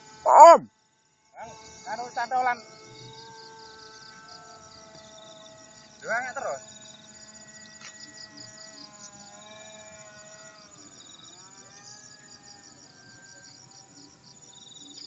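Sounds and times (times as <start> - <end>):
crickets chirping: 0.0 - 15.0
model airplane engine buzzing: 0.0 - 15.0.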